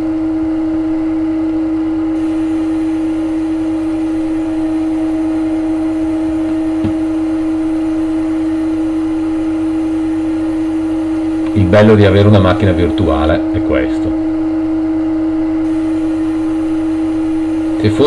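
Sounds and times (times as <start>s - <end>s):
machine spindle hum: 0.0s - 18.0s.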